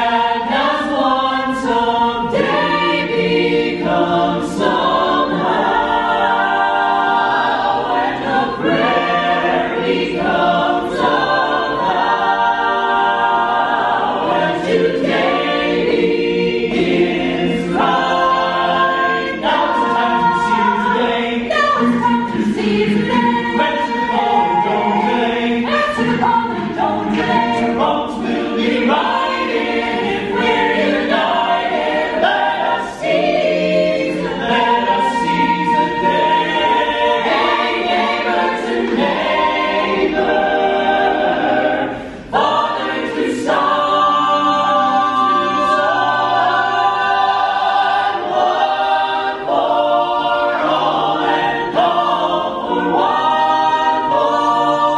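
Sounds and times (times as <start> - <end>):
a cappella choir singing: 0.0 - 54.9.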